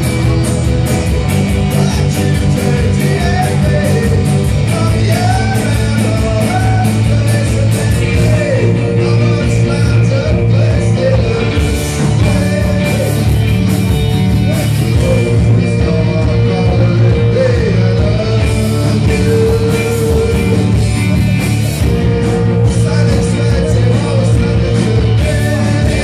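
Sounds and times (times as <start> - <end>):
bass guitar: 0.0 - 26.0
drums: 0.0 - 26.0
electric guitars: 0.0 - 26.0
man singing: 1.5 - 26.0.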